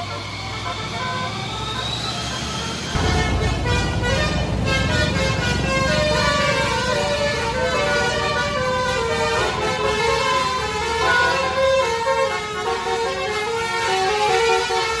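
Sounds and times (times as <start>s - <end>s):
bus engine rumble: 0.0s - 15.0s
bus musical air horn: 0.0s - 15.0s.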